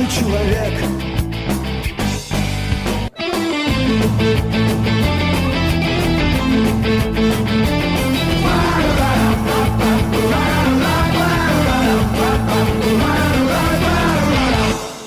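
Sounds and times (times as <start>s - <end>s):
punk rock band playing: 0.0s - 15.0s.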